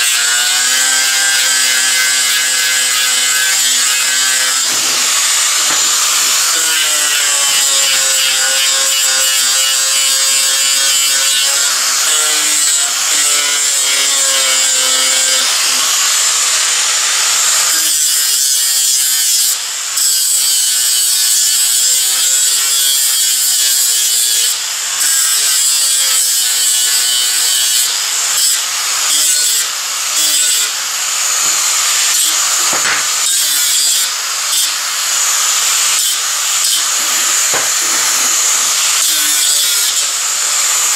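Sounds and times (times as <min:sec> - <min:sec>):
angle grinder grinding steel: 0:00.0 - 0:40.9.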